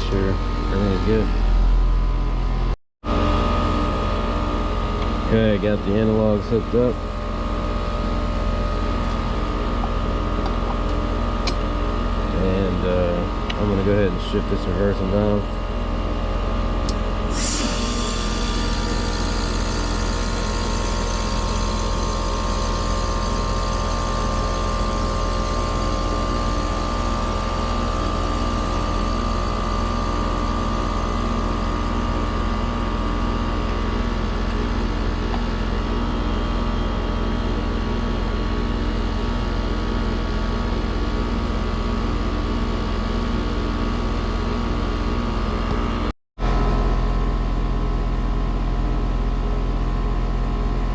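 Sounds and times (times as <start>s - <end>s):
heat pump compressor and fan hum: 0.0s - 50.9s.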